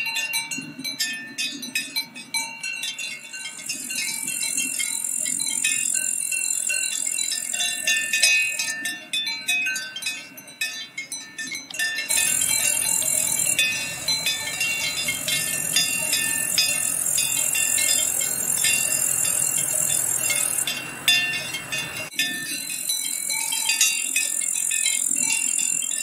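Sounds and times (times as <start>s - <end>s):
cowbells clanking: 0.0s - 26.0s
constant high hiss: 1.5s - 26.0s.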